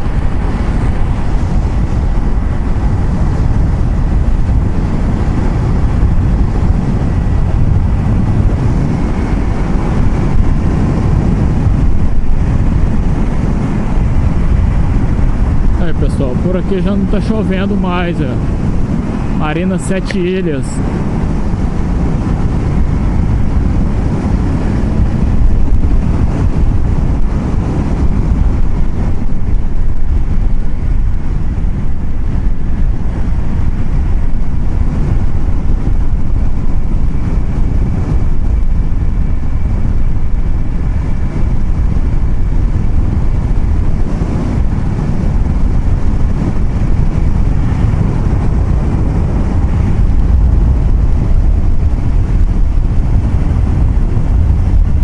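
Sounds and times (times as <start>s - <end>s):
vehicle road and wind noise: 0.0s - 55.0s
wind buffeting microphone: 0.0s - 55.0s.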